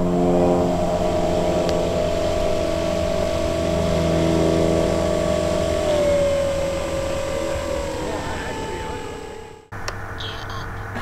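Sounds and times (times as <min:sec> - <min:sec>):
model plane motor and propeller: 0:00.0 - 0:09.7.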